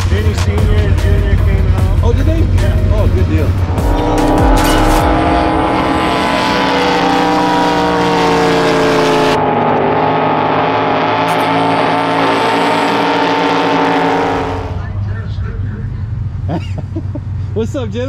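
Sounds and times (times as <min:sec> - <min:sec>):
boat engine running: 0:00.0 - 0:17.5.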